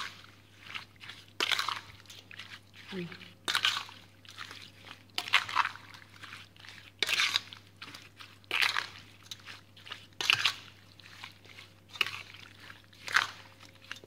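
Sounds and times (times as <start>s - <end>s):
wet squelches of meat: 0.0s - 14.0s.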